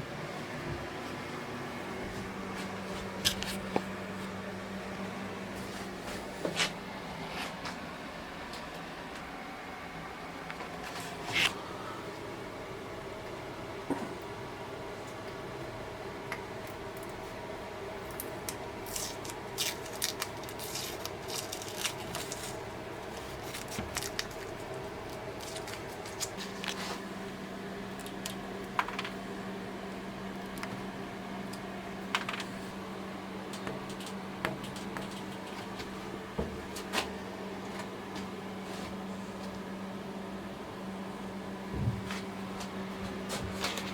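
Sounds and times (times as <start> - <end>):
mechanical hum: 0.0 - 43.9.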